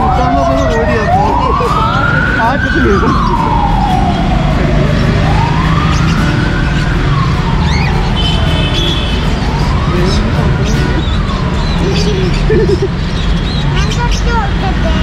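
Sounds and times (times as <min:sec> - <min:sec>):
emergency vehicle siren wailing: 0:00.0 - 0:13.4.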